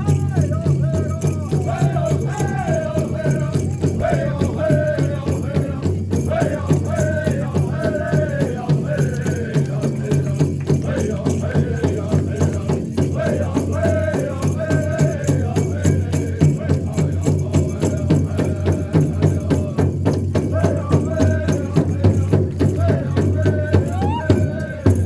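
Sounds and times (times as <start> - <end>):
big drum beat: 0.0 - 25.0
group singing wavering melody: 0.0 - 25.0.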